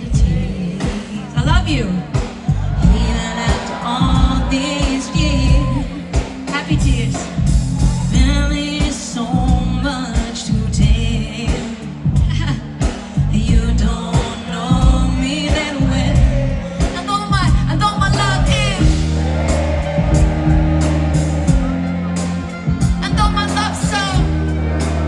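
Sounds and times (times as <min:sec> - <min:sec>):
woman singing: 0:00.0 - 0:20.9, 0:22.8 - 0:25.0
live pop band: 0:00.0 - 0:25.0.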